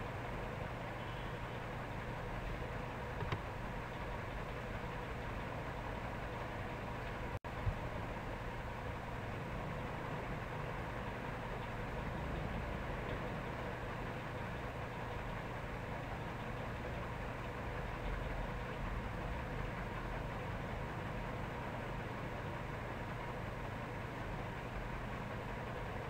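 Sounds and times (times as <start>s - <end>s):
steady low hum with hiss: 0.0s - 26.0s.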